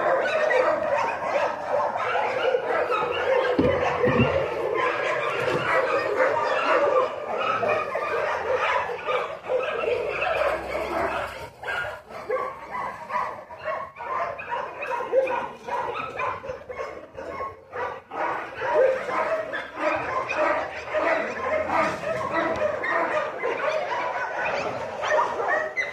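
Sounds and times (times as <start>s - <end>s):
dog whining and yipping: 0.0s - 12.9s, 13.6s - 25.9s.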